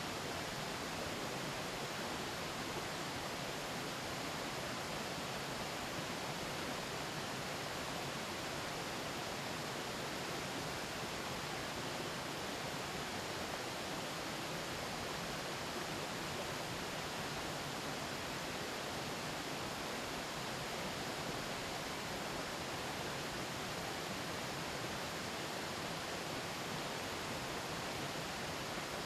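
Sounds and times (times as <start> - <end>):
mountain stream flowing: 0.0 - 29.0.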